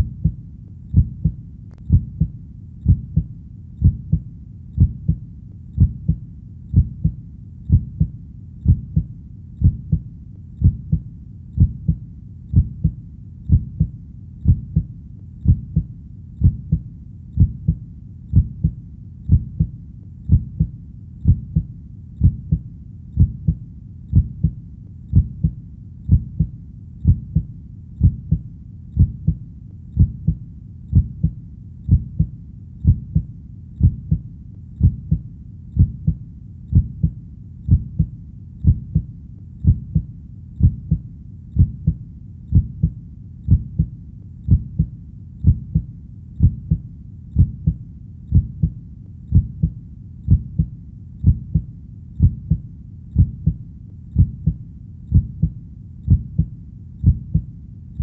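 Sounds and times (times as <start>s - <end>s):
heartbeat thumping: 0.0s - 5.2s, 5.8s - 57.5s
faint low hum: 0.0s - 58.0s.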